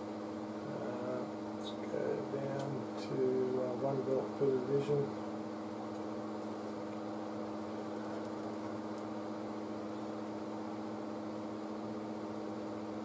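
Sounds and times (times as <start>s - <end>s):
electrical hum with fan noise: 0.0s - 13.0s.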